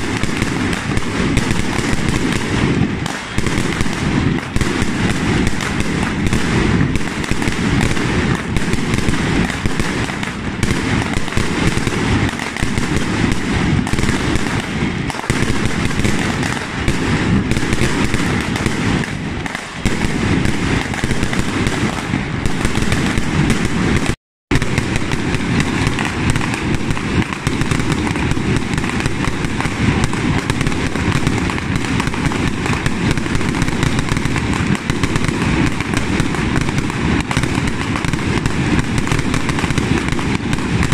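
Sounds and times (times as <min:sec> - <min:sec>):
firecrackers and fireworks banging: 0:00.0 - 0:40.9.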